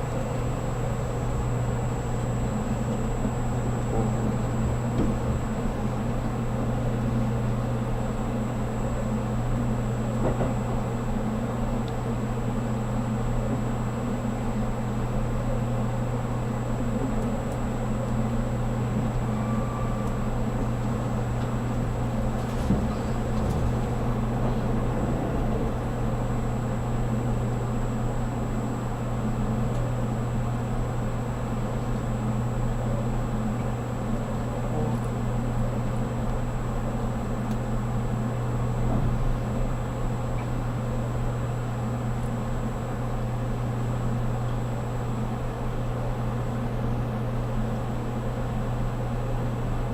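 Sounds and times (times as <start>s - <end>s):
train running hum and rumble: 0.0s - 49.9s.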